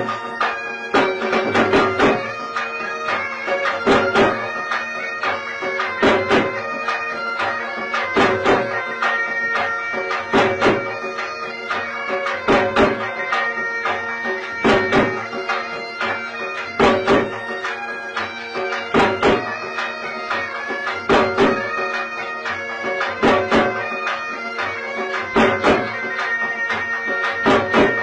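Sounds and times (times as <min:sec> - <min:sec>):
folk melody over drone: 0:00.0 - 0:28.0
heavy drum beats: 0:00.0 - 0:28.0.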